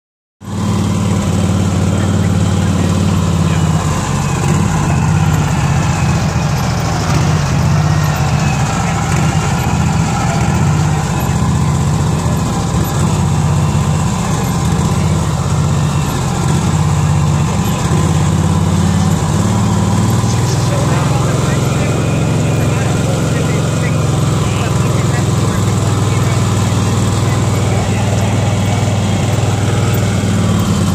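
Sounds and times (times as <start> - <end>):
engine running steadily: 0.4 - 30.9.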